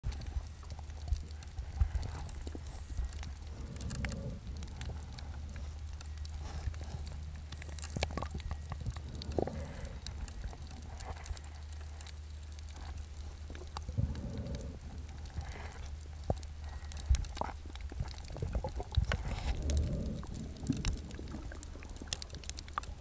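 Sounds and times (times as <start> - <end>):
muffled underwater rumble: 0.0 - 23.0.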